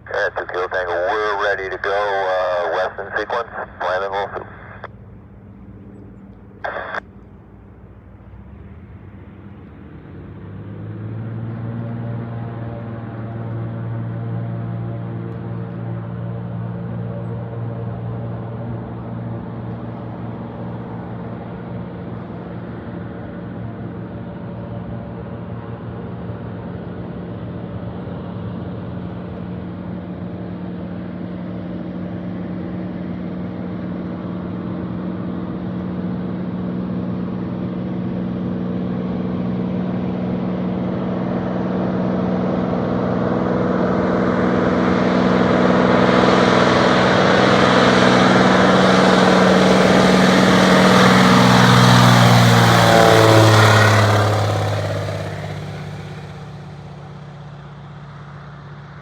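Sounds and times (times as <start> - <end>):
propeller plane engine: 0.0 - 59.0.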